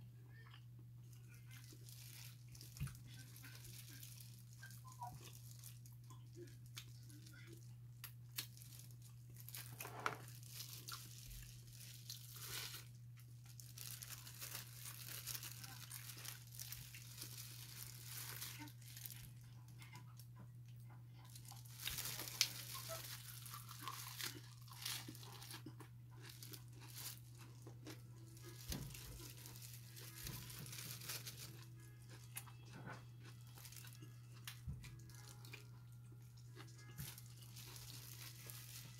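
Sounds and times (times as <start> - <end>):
crunchy bites and chewing: 0.5 - 20.0, 21.2 - 38.9
plastic gloves crinkling: 1.1 - 20.3, 21.2 - 32.5, 33.2 - 38.9.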